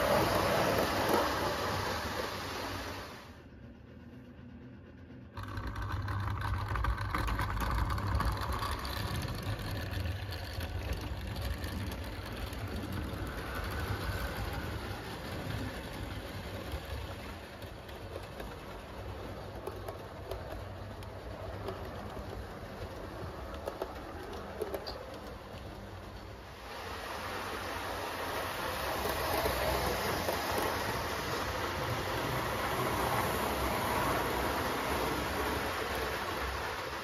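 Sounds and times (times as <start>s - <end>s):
trains rumbling past: 0.0s - 37.0s.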